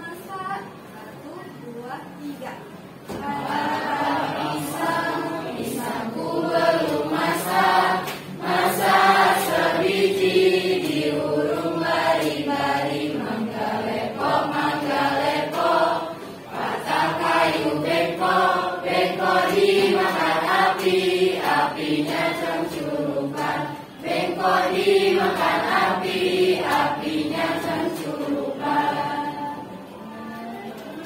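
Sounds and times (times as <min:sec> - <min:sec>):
children singing together: 0:03.1 - 0:30.4.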